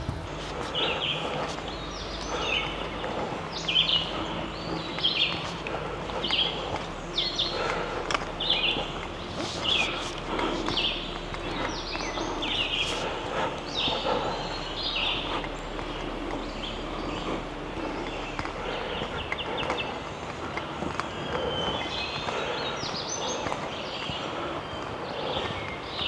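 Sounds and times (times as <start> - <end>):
footsteps on dirt trail: 0.0 - 26.0
songbirds calling: 0.0 - 26.0.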